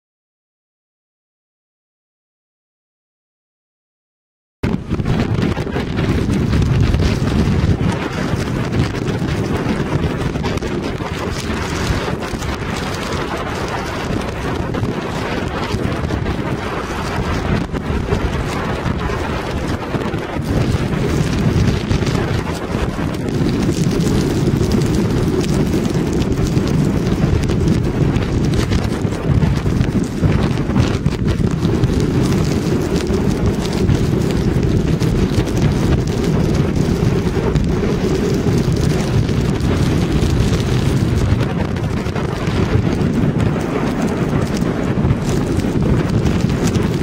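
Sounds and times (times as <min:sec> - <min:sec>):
rain spattering on camera: 0:04.6 - 0:47.0
strong wind buffeting microphone: 0:04.6 - 0:47.0.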